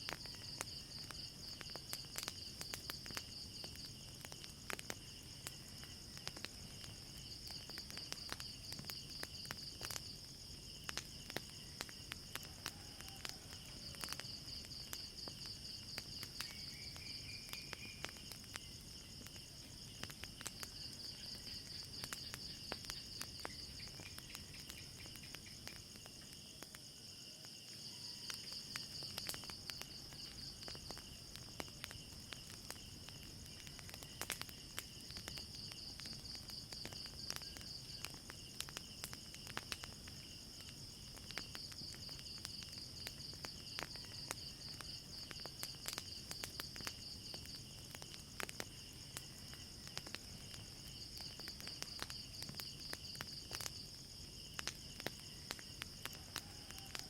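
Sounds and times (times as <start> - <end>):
crickets chirring: 0.0 - 57.0
wood fire crackling: 0.0 - 57.0.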